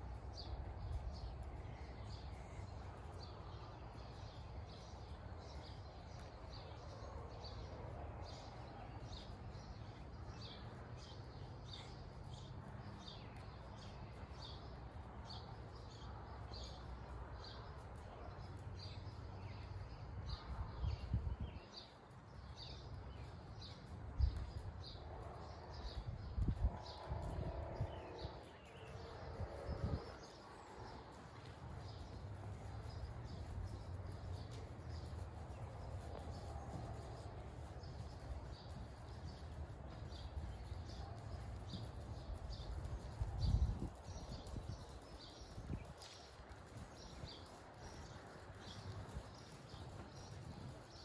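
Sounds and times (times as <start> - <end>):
faint low rumble: 0.0 - 51.0
small birds chirping: 0.0 - 51.0.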